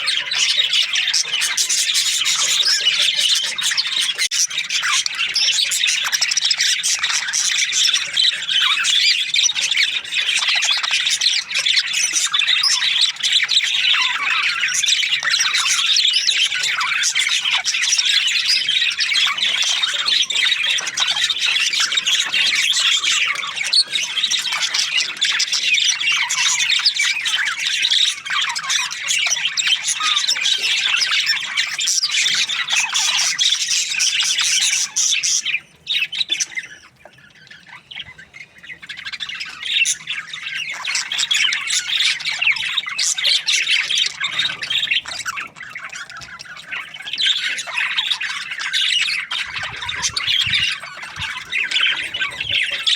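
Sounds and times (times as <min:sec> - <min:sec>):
budgerigars chattering and squawking: 0:00.0 - 0:52.9.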